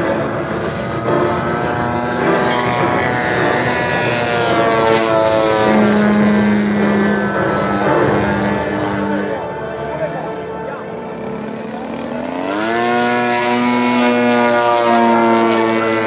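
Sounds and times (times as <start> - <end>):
model plane engine and propeller: 0.0 - 16.0.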